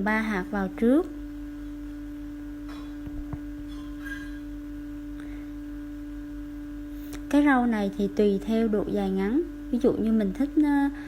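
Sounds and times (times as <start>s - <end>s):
steady single-pitched hum: 0.0s - 11.0s.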